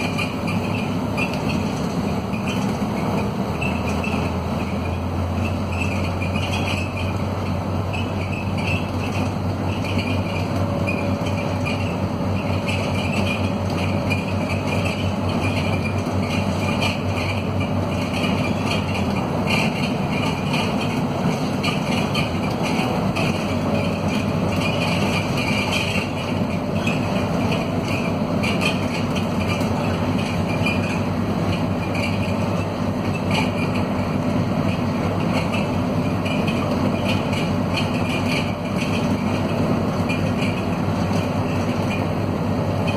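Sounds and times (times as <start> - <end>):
bus diesel engine pulling under load: 0.0 - 42.9
constant rattling of bus: 0.0 - 42.9.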